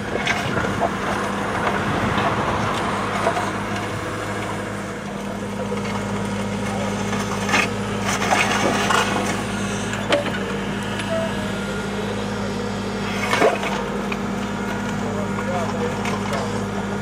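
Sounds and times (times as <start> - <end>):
excavator engine humming: 0.0 - 17.0.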